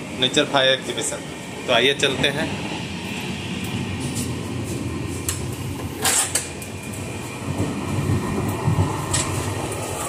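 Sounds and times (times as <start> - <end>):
passenger coach rumbling: 0.0 - 10.0.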